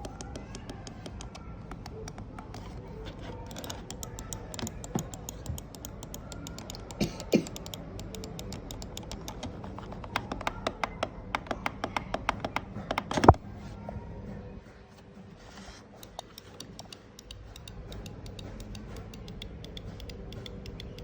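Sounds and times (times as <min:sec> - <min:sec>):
sharp clicks and taps: 0:00.0 - 0:13.4, 0:16.0 - 0:21.0.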